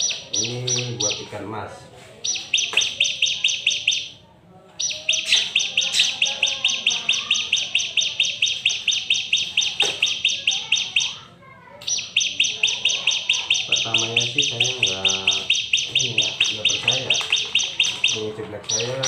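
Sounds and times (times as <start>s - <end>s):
bird singing high chirps: 0.0s - 1.3s, 2.2s - 4.2s, 4.8s - 11.2s, 11.8s - 19.0s.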